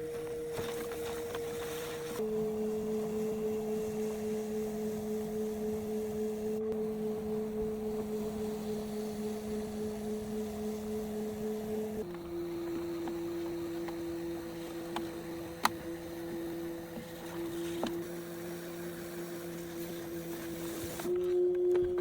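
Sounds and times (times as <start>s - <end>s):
potter's wheel motor humming: 0.0s - 22.0s.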